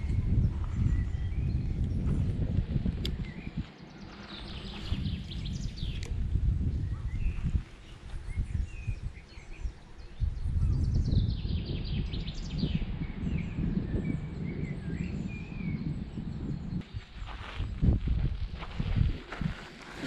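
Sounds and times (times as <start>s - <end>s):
songbirds chirping: 0.0s - 18.4s
wind buffeting microphone: 0.0s - 20.0s.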